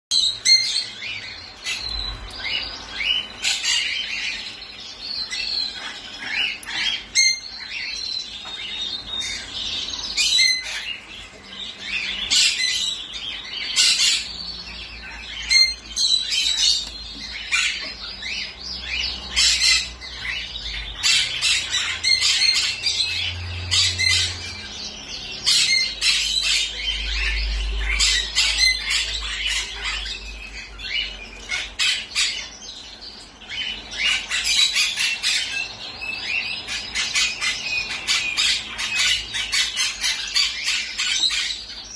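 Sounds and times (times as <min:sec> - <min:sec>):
parrots squawking and chirping: 0:00.1 - 0:41.9.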